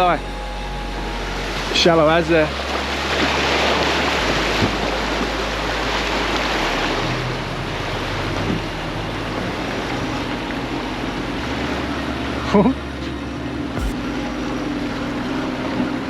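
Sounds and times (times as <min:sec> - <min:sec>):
boat motor humming: 0:00.0 - 0:16.0
water rushing and splashing: 0:00.0 - 0:16.0.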